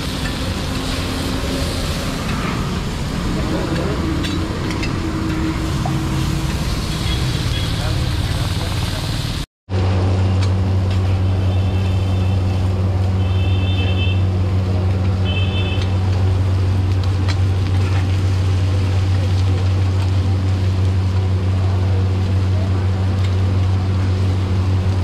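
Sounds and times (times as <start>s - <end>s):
loud low engine drone: 0.0s - 25.0s.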